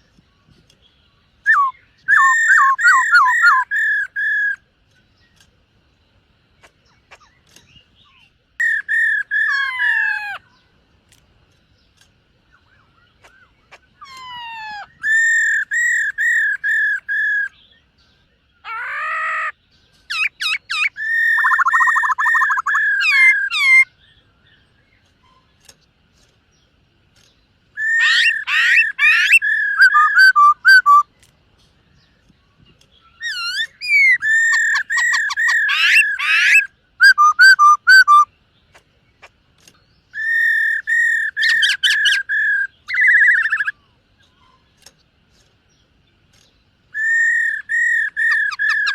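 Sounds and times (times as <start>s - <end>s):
bird whistling song: 0.0s - 5.5s, 6.6s - 10.7s, 11.8s - 25.8s, 27.2s - 31.2s, 31.8s - 44.7s, 45.8s - 48.9s.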